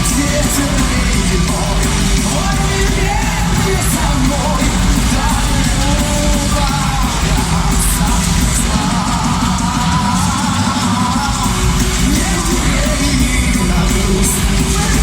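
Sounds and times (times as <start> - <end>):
heavy metal band playing: 0.0 - 15.0
person singing: 0.0 - 15.0.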